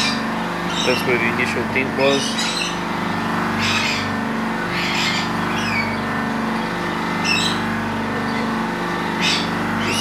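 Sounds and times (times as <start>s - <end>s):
buffing machine humming: 0.0s - 10.0s.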